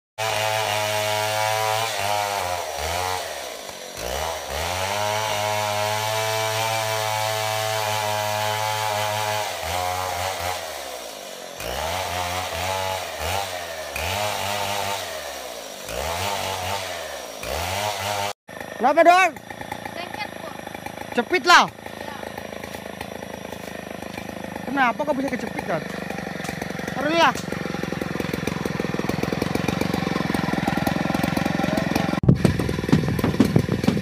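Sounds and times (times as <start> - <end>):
chainsaw cutting log: 0.2 - 34.0.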